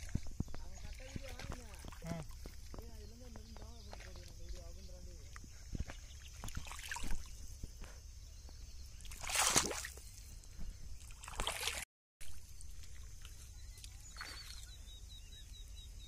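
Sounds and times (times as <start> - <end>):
mud and water sloshing: 0.0 - 7.9, 8.5 - 15.3.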